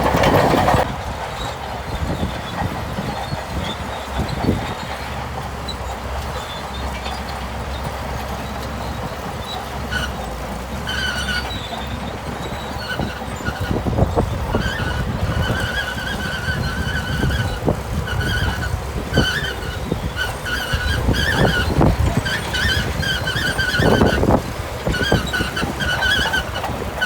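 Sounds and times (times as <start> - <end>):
diesel engine rumbling: 0.0 - 27.0
steel tracks squealing: 0.0 - 27.0
tracks clanking: 0.0 - 27.0.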